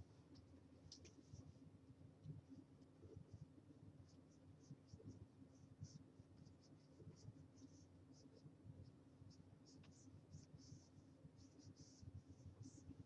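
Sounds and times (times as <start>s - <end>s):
low steady hum: 0.0s - 13.0s
stylus scratching on tablet: 2.3s - 13.0s.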